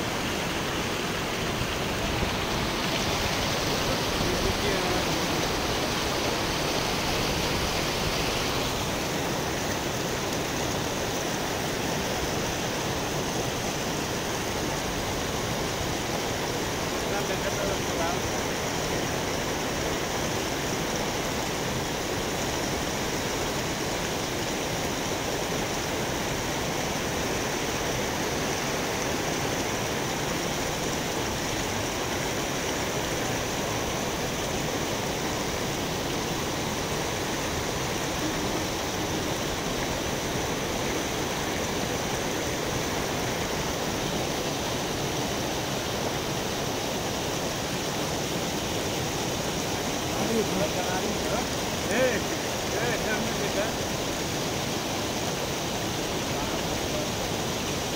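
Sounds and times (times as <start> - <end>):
river water rushing against boulders: 0.0 - 57.9.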